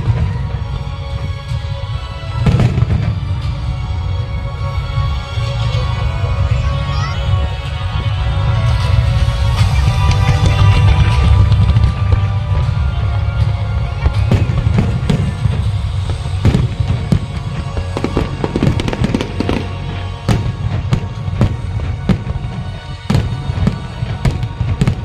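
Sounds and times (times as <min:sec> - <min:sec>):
fireworks bangs and crackles: 0:00.0 - 0:25.0
loud music: 0:00.0 - 0:25.0.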